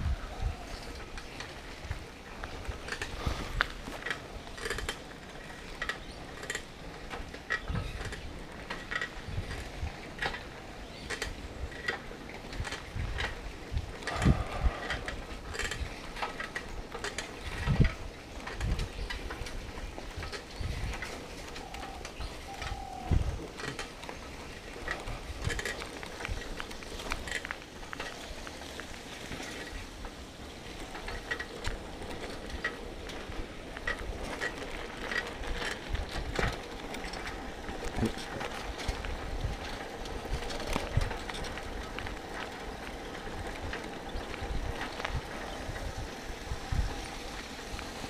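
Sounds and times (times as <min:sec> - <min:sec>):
bike rattling: 0:00.0 - 0:48.0
wind buffeting microphone: 0:00.0 - 0:48.0.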